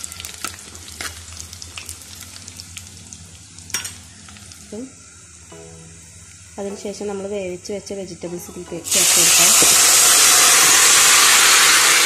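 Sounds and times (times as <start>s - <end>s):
shallots sizzling in hot oil: 0.0s - 8.0s, 8.7s - 12.0s.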